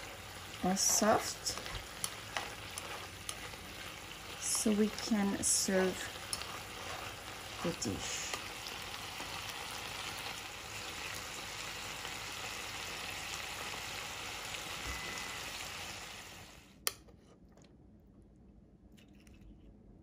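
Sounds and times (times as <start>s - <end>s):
sauce sizzling in a frying pan: 0.0s - 16.7s.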